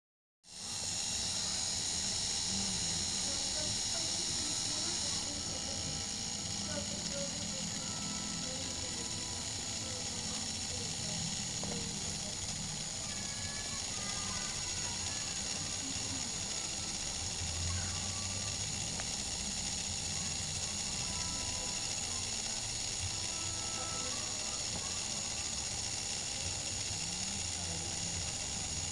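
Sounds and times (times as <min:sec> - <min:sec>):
small motor whining: 0:00.4 - 0:28.9.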